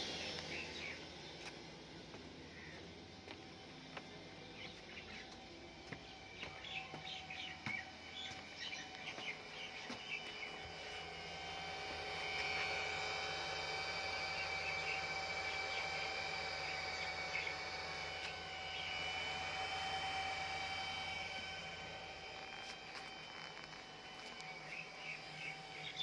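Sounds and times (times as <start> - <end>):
cooling fan whining: 0.0 - 26.0
birds chirping: 0.1 - 11.3, 14.0 - 21.1, 22.2 - 26.0.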